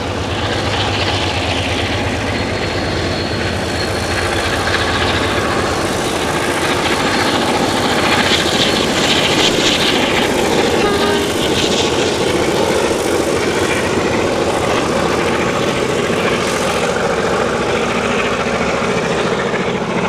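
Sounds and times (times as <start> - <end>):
diesel locomotives working hard: 0.0 - 20.0
engine drone: 0.0 - 20.0.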